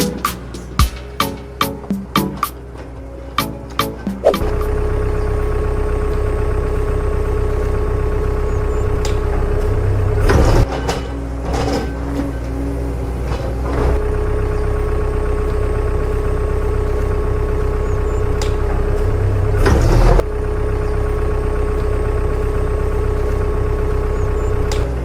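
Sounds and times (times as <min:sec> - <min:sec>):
heavy vehicle engine idling: 0:00.0 - 0:11.4, 0:12.0 - 0:25.0.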